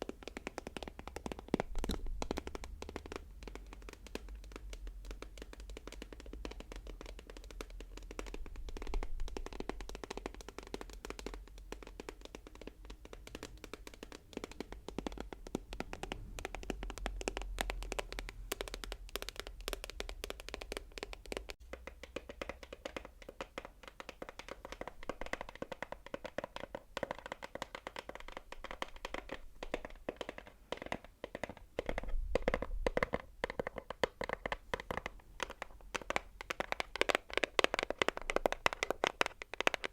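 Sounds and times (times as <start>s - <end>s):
rapid dense tapping: 0.0s - 39.9s.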